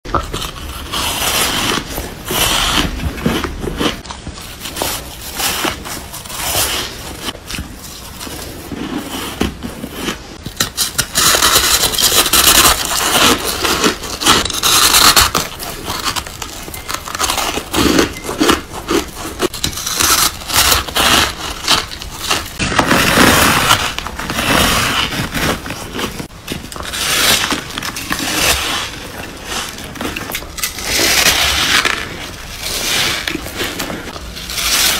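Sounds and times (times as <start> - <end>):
chewing crunchy ice: 0.2 - 34.9.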